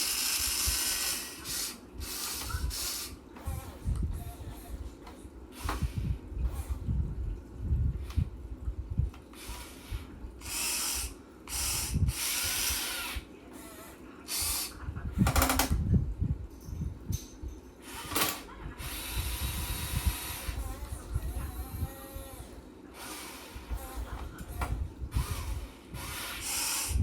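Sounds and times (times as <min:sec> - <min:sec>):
toy excavator motors whirring: 0:00.0 - 0:06.9, 0:09.1 - 0:15.8, 0:17.8 - 0:27.0.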